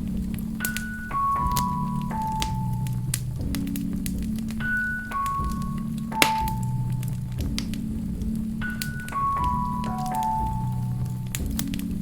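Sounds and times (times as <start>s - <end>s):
fire popping: 0.0s - 12.0s
soft background music: 0.0s - 12.0s
wood fire crackling: 0.0s - 12.0s.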